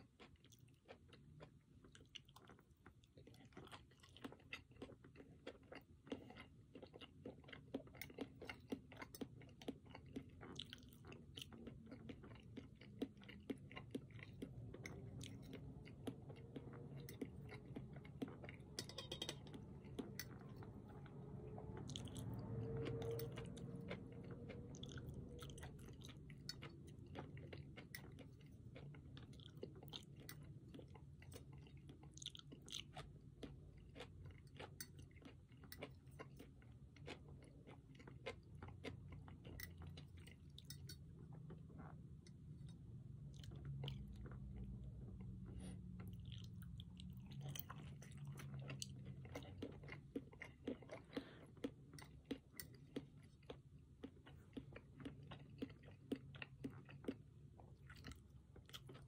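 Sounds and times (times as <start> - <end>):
chewing and biting food: 0.0 - 59.0.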